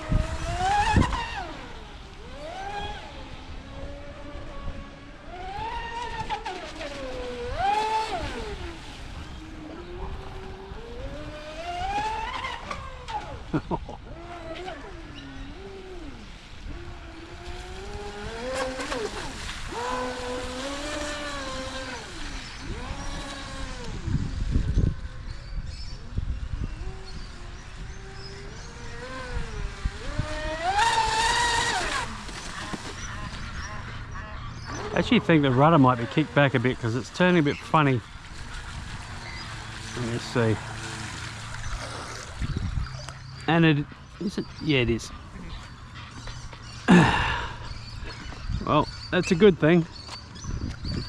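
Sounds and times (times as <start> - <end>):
electric boat motor whining: 0.0 - 51.0.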